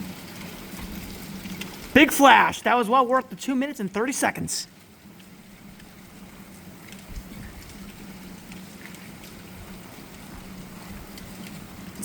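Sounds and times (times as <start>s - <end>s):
rain noise: 0.0s - 12.0s.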